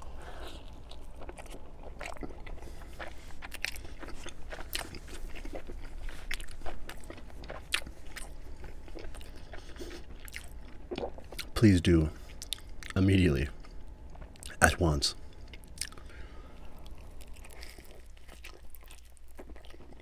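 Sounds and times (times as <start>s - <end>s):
person chewing crunchy food: 0.0s - 11.6s, 12.2s - 13.0s, 15.3s - 20.0s.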